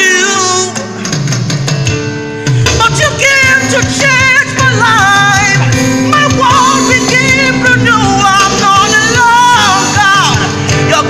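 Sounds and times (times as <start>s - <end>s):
person singing gospel: 0.0s - 1.0s, 2.8s - 11.0s.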